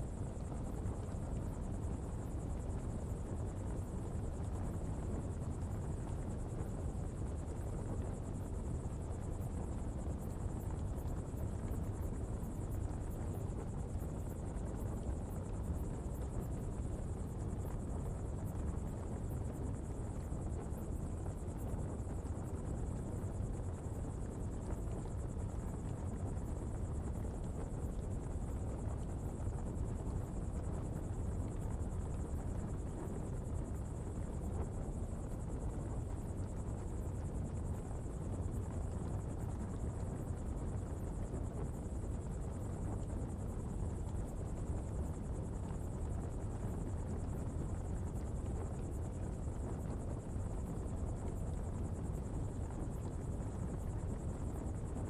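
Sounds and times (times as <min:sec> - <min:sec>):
fire burning with low rumble: 0:00.0 - 0:55.0.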